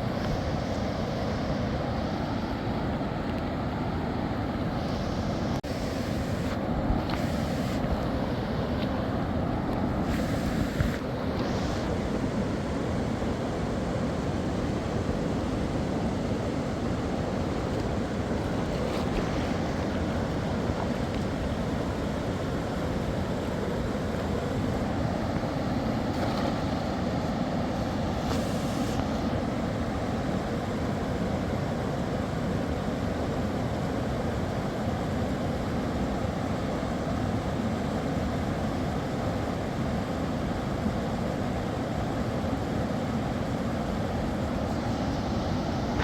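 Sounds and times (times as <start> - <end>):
mountain river rushing: 0.0 - 46.0.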